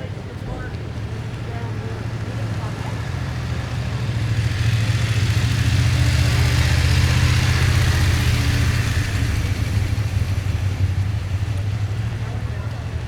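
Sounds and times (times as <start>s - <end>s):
vehicle driving past: 0.9s - 13.0s.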